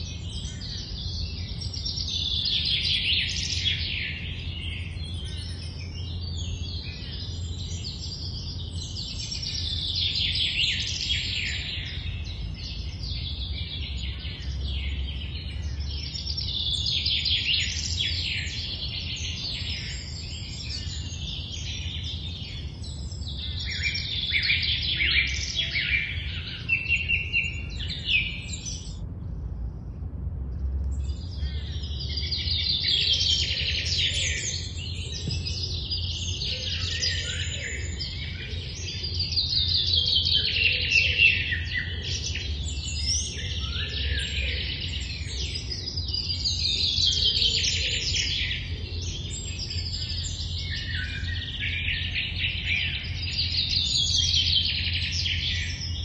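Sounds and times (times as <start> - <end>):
steady low rumble: 0.0 - 40.6, 41.4 - 56.0
birds singing: 0.0 - 56.0.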